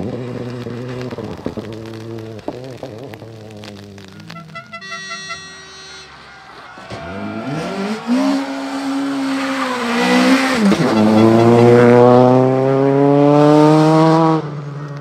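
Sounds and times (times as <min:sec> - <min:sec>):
rally car engine revving: 0:00.0 - 0:04.3, 0:06.9 - 0:15.0.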